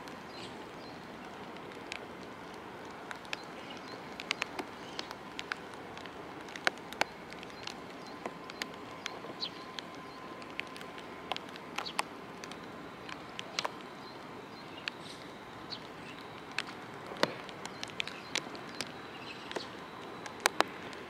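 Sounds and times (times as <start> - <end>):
faint steady whine: 0.0 - 21.0
rain hiss: 0.0 - 21.0
raindrops tapping microphone: 0.0 - 21.0.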